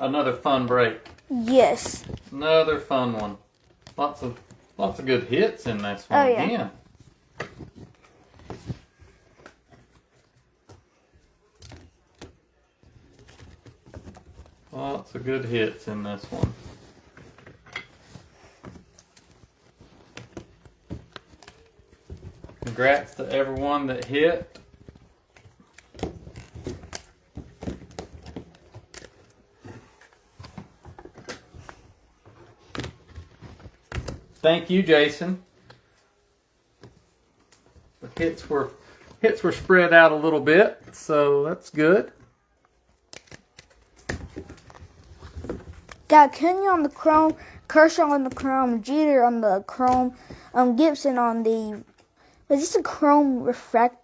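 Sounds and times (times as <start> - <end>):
trading cards tapping and rustling: 0.6 - 36.0, 41.9 - 53.8.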